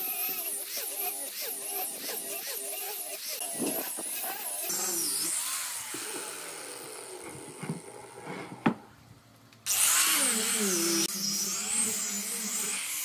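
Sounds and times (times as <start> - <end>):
angle grinder sanding wood: 0.0 - 8.6, 9.7 - 13.0.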